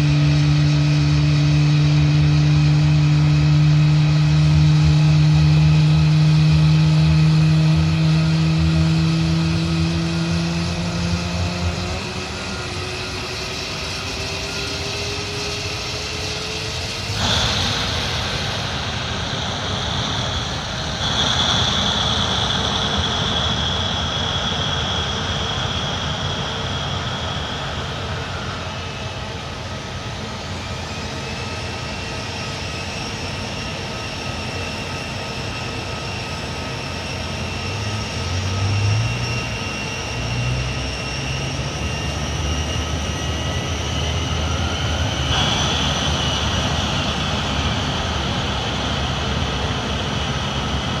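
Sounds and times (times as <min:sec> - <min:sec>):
faint rising whine: 0:00.0 - 0:51.0
jet engines whining: 0:00.0 - 0:51.0.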